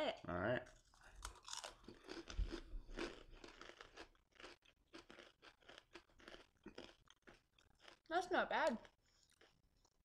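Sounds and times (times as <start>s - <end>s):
people crunching crackers: 0.6s - 10.0s.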